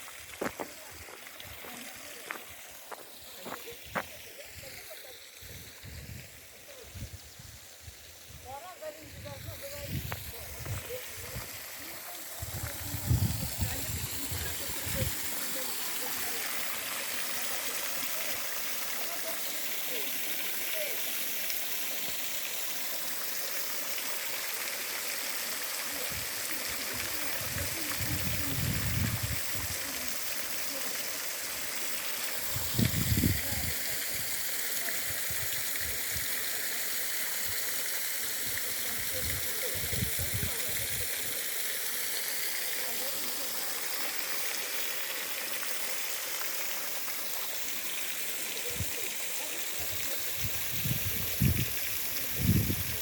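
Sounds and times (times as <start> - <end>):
water rushing at small waterfall: 0.0 - 53.0.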